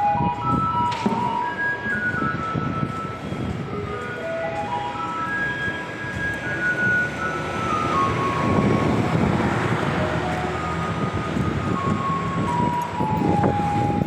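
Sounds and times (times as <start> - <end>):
street traffic: 0.0 - 14.0
truck rumble: 0.0 - 14.0.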